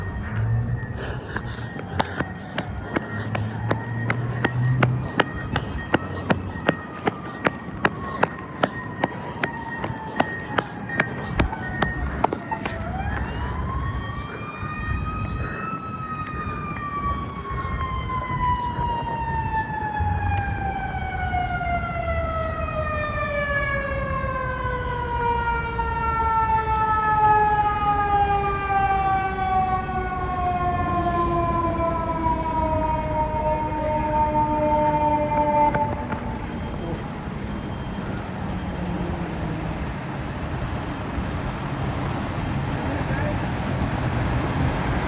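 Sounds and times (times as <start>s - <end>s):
fire truck siren: 0.0s - 45.0s.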